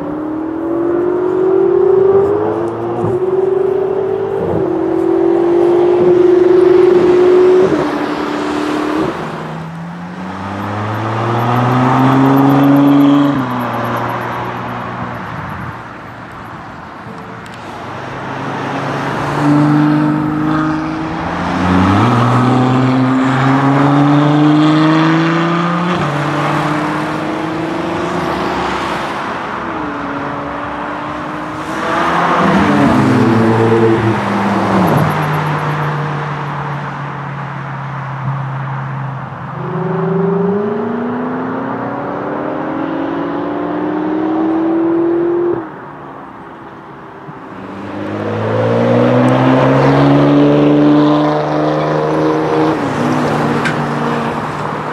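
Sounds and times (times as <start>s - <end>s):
sports cars accelerating past: 0.0s - 15.8s, 17.6s - 37.3s, 38.1s - 46.4s, 47.3s - 54.9s.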